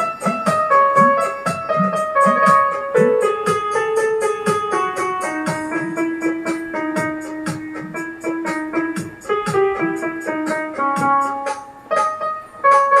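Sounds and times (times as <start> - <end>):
light regular beat: 0.0 - 13.0
piano melody and chords: 0.0 - 13.0.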